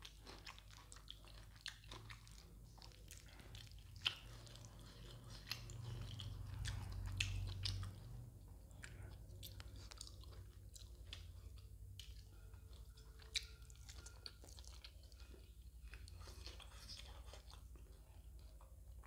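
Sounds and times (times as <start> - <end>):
wet chewing and mouth smacks: 0.0 - 19.0.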